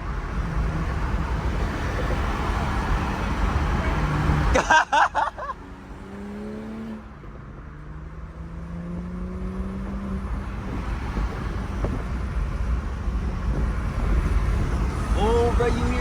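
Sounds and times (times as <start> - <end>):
car engine accelerating: 0.0 - 16.0
rushing road noise: 0.0 - 16.0.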